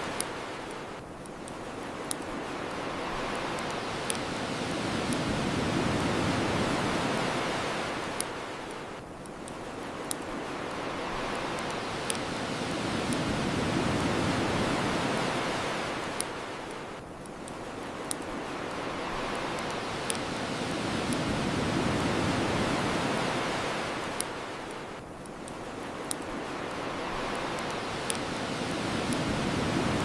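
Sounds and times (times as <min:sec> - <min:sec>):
ocean waves washing onto shore: 0:00.0 - 0:30.0
bonfire crackling pops: 0:00.1 - 0:07.2, 0:07.9 - 0:15.2, 0:16.0 - 0:23.3, 0:24.0 - 0:30.0.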